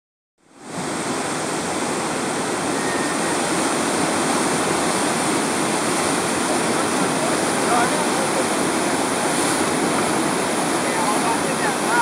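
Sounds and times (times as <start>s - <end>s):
whitewater rapids rushing: 0.5s - 12.0s.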